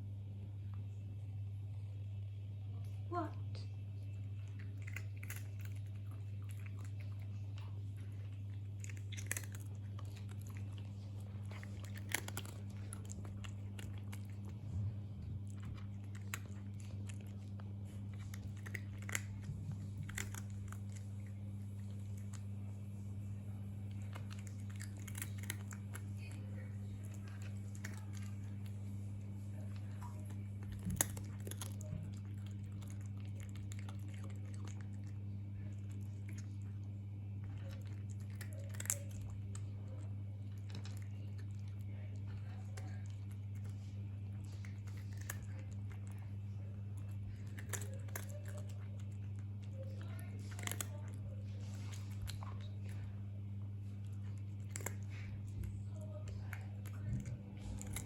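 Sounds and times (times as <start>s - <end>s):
steady low hum: 0.0s - 58.0s
pet chewing crunchy snack: 3.8s - 58.0s.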